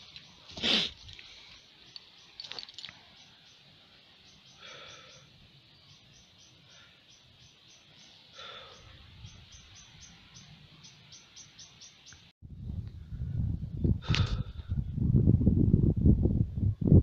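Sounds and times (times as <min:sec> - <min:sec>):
low wind: 0:00.0 - 0:17.0.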